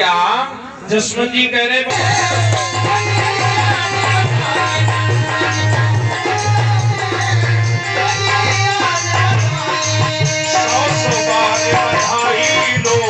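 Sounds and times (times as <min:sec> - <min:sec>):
loud music with drums and melody: 0:01.9 - 0:13.0.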